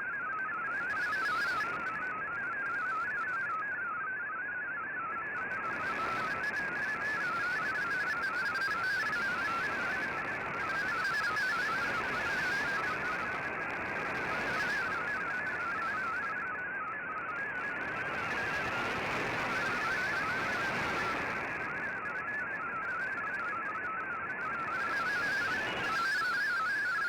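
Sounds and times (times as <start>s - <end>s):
warbling digital data tones: 0.4s - 3.7s, 5.4s - 16.5s, 17.4s - 27.0s.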